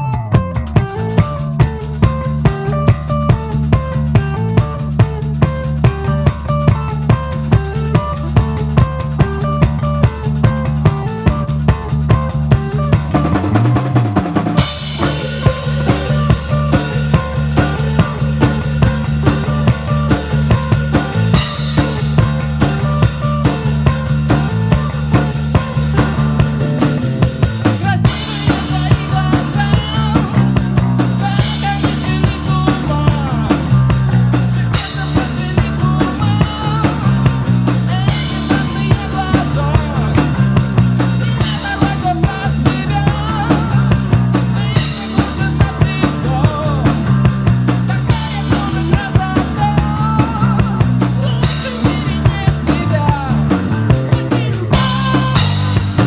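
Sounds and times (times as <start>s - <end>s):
bass guitar: 0.0s - 56.0s
drum kit steady beat: 0.0s - 56.0s
electric guitar lead melody: 0.0s - 56.0s.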